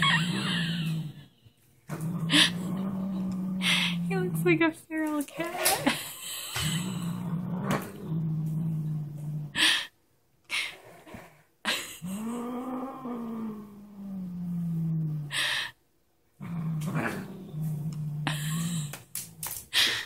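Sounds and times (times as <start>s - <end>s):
cat growling: 0.0s - 9.9s, 12.0s - 15.8s, 16.4s - 20.0s.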